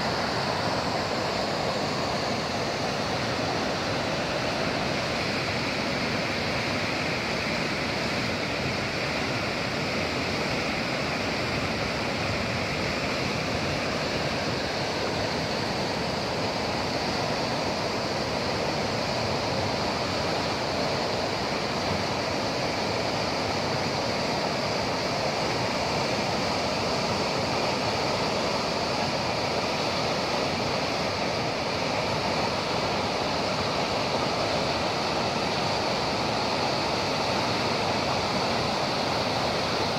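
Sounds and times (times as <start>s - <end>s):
water rushing under sluice gate: 0.0s - 39.9s.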